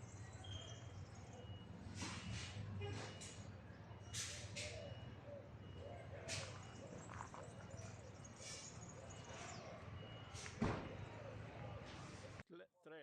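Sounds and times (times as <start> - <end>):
faint outdoor ambience: 0.0 - 13.0
soft bird call: 0.3 - 12.4.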